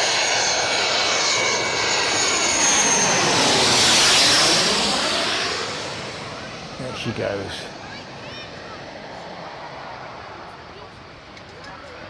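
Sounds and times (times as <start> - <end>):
jet airliner passing: 0.0 - 12.0.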